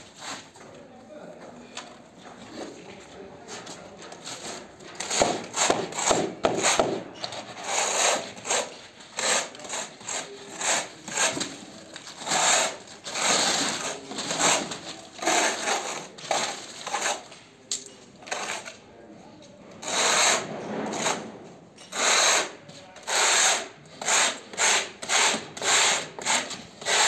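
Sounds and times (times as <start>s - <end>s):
trowel scraping over tiles: 4.2s - 18.8s, 19.8s - 27.0s.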